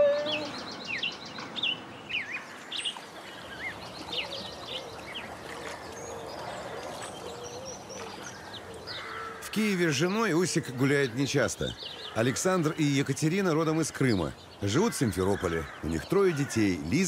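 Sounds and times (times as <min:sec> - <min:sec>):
small birds chirping and singing: 0:00.0 - 0:17.0.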